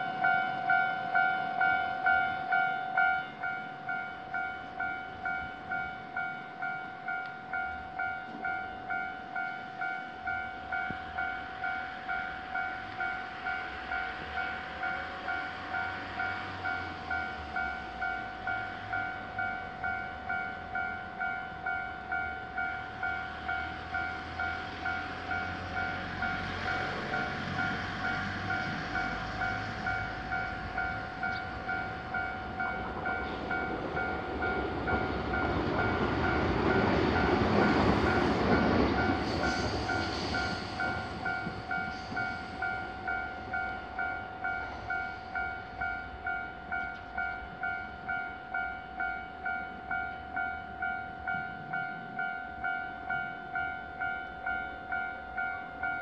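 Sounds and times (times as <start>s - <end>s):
level crossing warning bell: 0.0s - 56.0s
train rumble: 0.0s - 56.0s.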